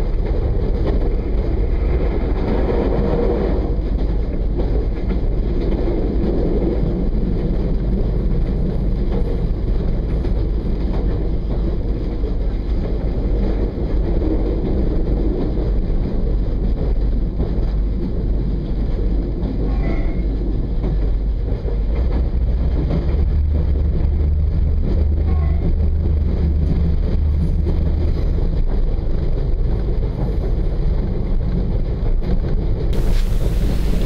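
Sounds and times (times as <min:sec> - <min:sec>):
train rumbling on track: 0:00.0 - 0:34.0
wind buffeting microphone: 0:00.0 - 0:34.0.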